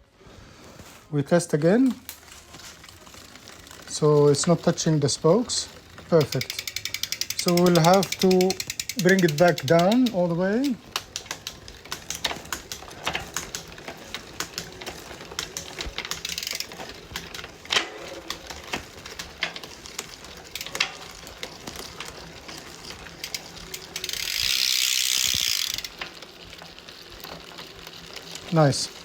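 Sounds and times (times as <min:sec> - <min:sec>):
bicycle drivetrain ratcheting clicks: 0:01.4 - 0:29.0.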